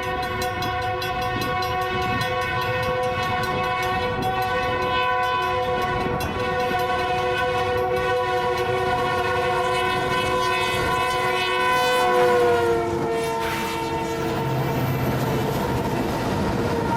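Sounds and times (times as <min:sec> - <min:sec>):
locomotive air horn chord: 0:00.0 - 0:15.3, 0:16.4 - 0:16.9
rumble of moving train: 0:00.0 - 0:16.9.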